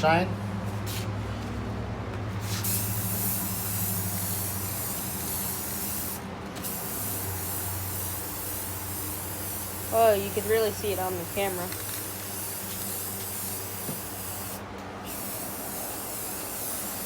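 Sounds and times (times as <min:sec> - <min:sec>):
aerosol spray can hissing: 0:02.6 - 0:17.0.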